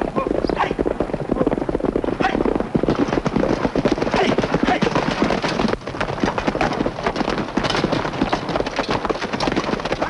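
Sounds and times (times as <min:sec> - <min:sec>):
horses galloping on hard ground: 0:00.0 - 0:10.0.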